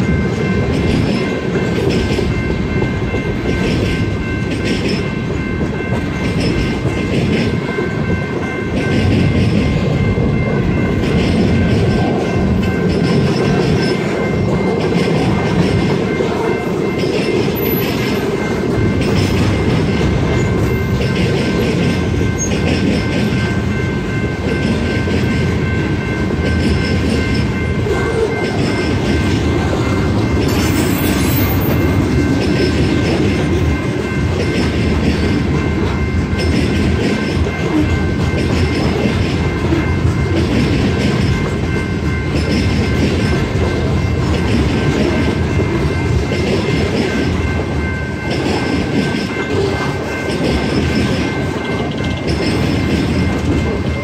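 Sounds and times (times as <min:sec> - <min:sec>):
electronic crossing bell ringing: 0:00.0 - 0:54.0
freight train rumbling: 0:00.0 - 0:54.0.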